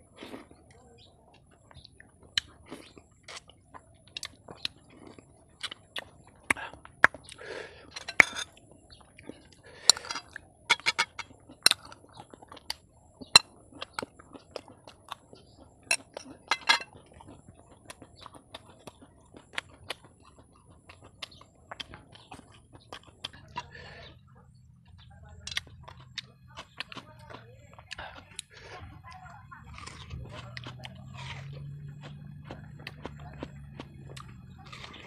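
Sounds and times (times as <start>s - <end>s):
chewing and lip-smacking: 0.0s - 35.0s.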